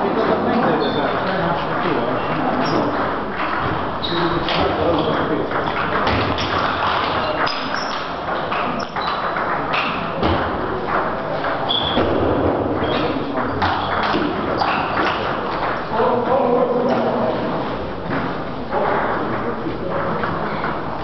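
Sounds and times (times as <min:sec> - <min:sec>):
large hall noise: 0:00.0 - 0:21.0.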